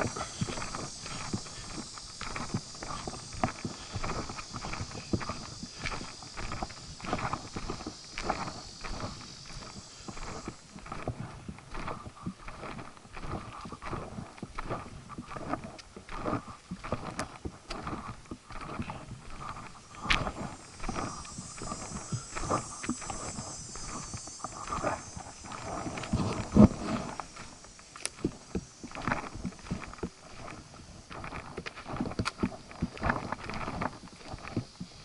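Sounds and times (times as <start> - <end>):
footsteps on a trail: 0.0 - 35.0.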